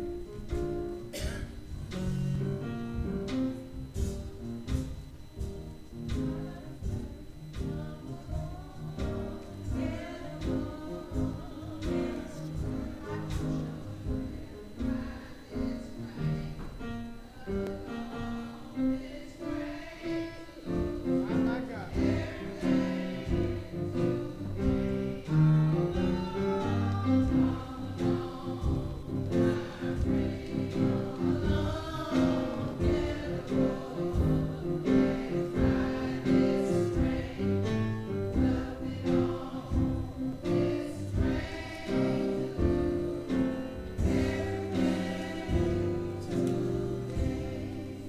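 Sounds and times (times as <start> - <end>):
instruments with steady beat: 0.0 - 16.4, 20.7 - 48.0
choir singing gospel music: 0.0 - 48.0.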